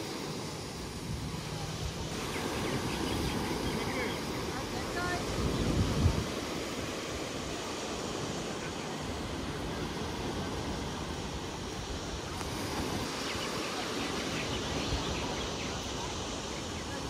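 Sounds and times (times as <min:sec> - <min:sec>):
ocean surf washing ashore: 0:00.0 - 0:17.0
wind: 0:00.0 - 0:17.0.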